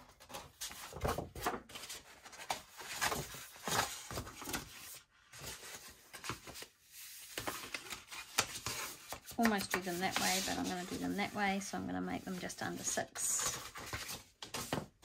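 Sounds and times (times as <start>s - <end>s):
card rustling and scraping: 0.2s - 14.9s.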